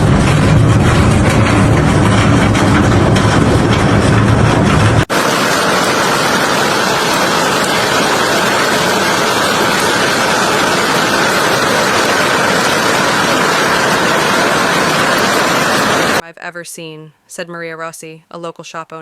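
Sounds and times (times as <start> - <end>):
heavy rain and hail: 0.0 - 16.2.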